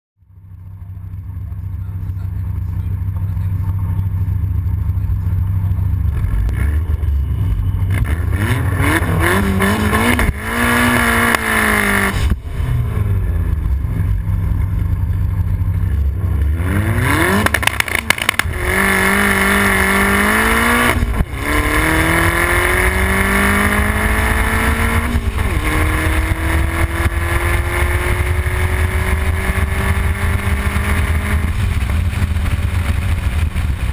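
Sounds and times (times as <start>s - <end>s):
car engine revving and accelerating: 1.0s - 33.9s.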